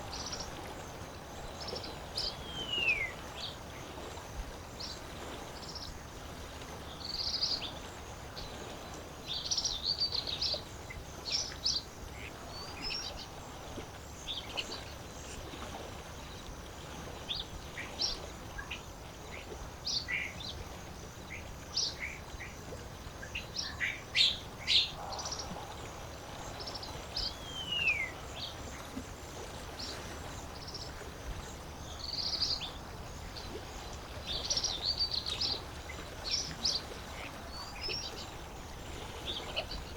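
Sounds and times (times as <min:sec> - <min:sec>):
low hiss of lakeside ambience: 0:00.0 - 0:39.9.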